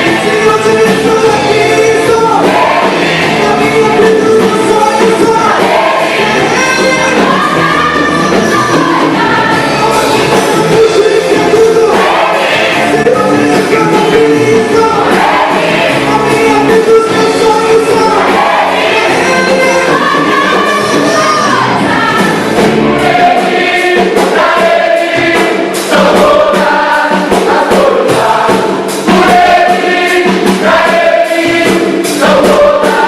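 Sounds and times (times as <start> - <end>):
gospel choir singing: 0.0 - 33.0
musical accompaniment: 0.0 - 33.0.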